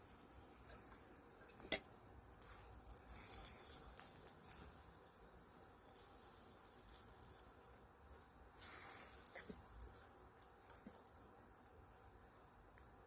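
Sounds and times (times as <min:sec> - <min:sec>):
mushrooms sizzling in a pan: 0:00.0 - 0:13.0.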